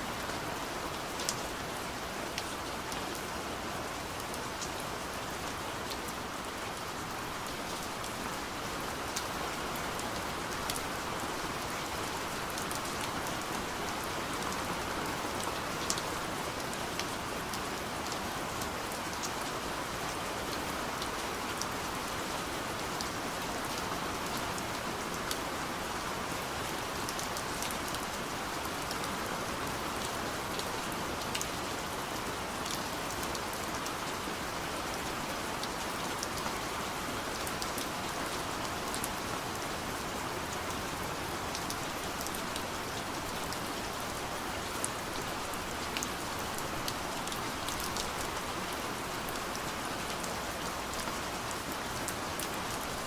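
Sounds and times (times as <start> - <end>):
rain pattering on a window: 0.0 - 53.0.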